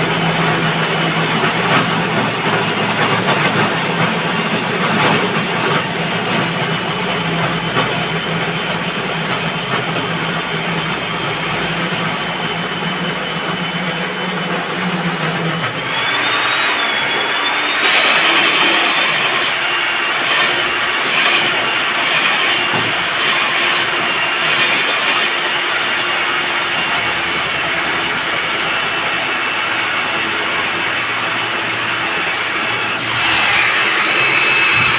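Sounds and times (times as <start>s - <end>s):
core drill motor whine: 0.0s - 34.9s
grinding and scraping concrete: 0.0s - 34.9s.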